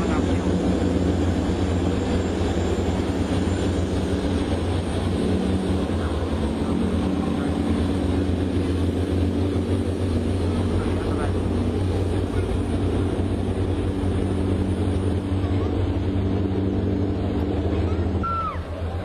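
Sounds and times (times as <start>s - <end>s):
diesel engine droning: 0.0s - 19.0s
propeller wash churning: 0.0s - 19.0s.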